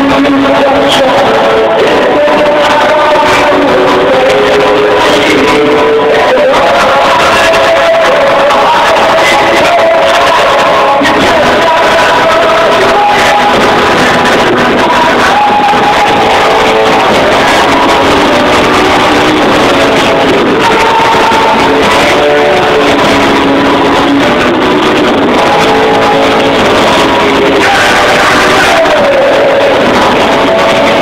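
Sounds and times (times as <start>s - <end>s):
electric guitar sustained notes: 0.0s - 31.0s
live rock band: 0.0s - 31.0s.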